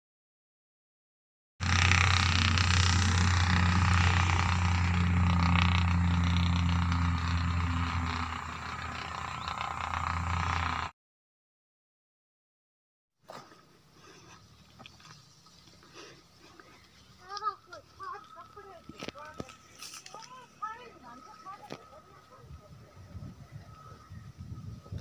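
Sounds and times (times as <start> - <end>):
engine running with low hum: 1.6 - 10.9, 13.9 - 25.0.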